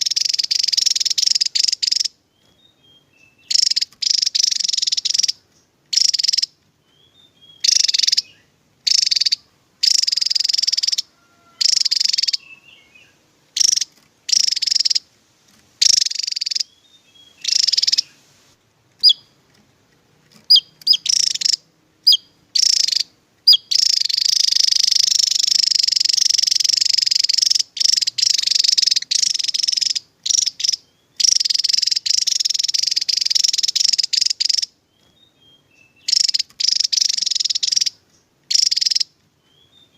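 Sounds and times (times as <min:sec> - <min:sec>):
bird singing buzzy bursts: 0:00.0 - 0:15.1, 0:15.8 - 0:19.6, 0:20.4 - 0:39.9
sharp thin bird chirps: 0:00.0 - 0:15.1, 0:15.8 - 0:18.2, 0:19.0 - 0:19.4, 0:20.4 - 0:39.9.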